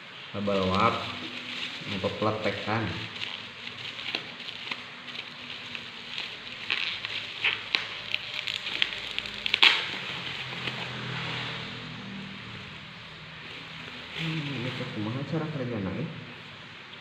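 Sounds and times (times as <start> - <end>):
bubble wrap crinkling and crackling: 0.3 - 15.8.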